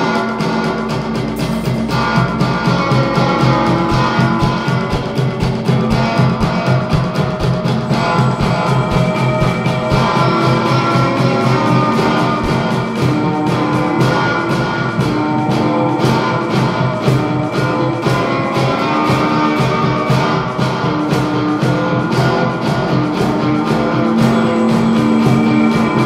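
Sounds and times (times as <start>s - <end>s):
bass guitar: 0.0s - 26.0s
drum and percussion hits: 0.0s - 26.0s
electric guitar: 0.0s - 26.0s.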